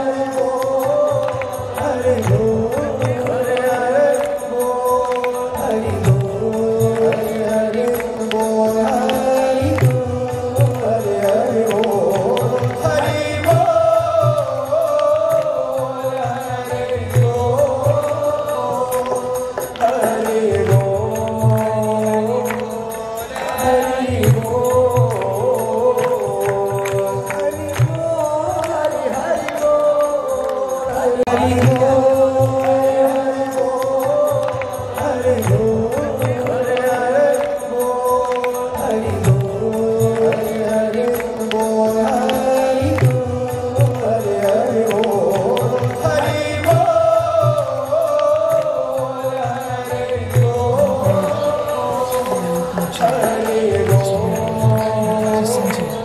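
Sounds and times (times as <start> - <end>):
devotional chant singing: 0.0 - 56.0.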